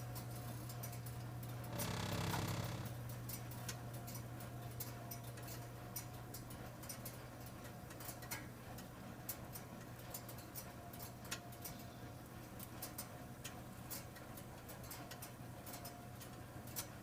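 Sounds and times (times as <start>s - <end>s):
oven ticking clicks: 0.0s - 11.8s, 12.5s - 17.0s.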